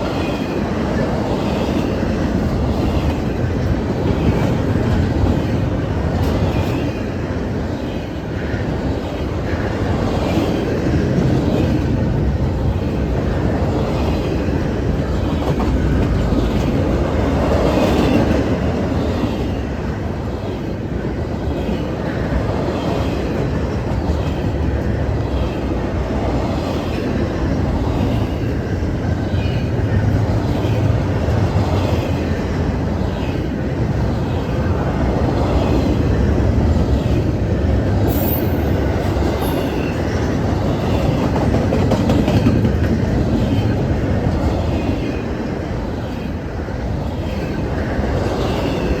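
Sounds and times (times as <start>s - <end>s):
freight train rumbling past: 0.0s - 49.0s.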